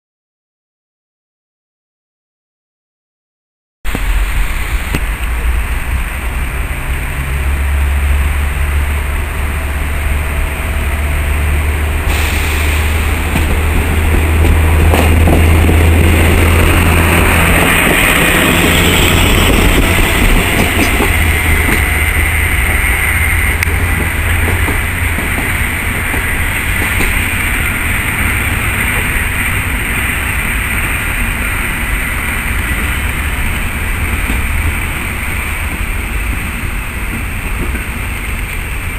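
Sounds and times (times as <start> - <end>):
diesel engine low drone: 3.9 - 38.9
train hiss: 3.9 - 38.9
train wheels on rails: 3.9 - 38.9.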